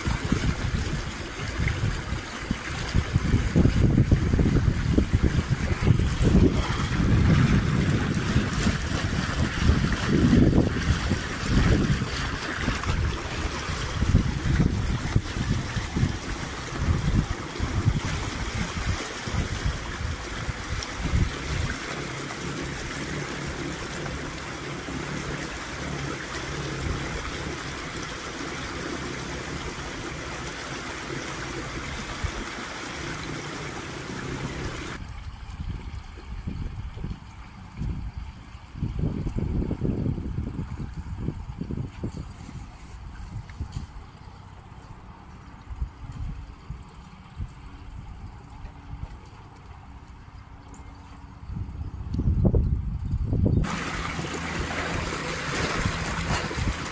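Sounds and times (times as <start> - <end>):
water rushing around boat: 0.0 - 56.9
wind rumble on microphone: 0.0 - 56.9.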